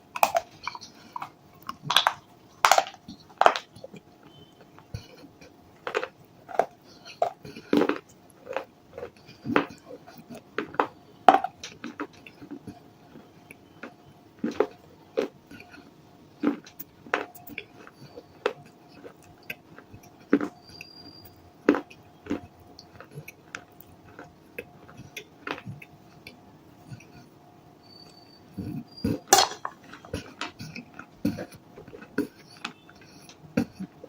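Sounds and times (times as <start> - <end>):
crunching baked clay in mouth: 0.0 - 27.3, 28.0 - 34.0
faint steady hum: 0.0 - 34.0.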